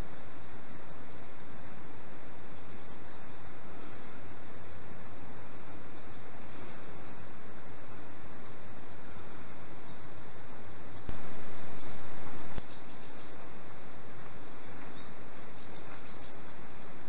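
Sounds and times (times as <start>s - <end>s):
meadow hiss: 0.0s - 17.0s.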